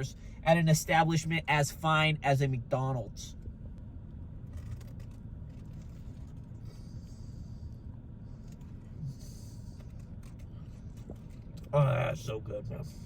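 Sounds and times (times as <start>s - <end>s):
vehicle hum from inside: 0.0s - 13.0s.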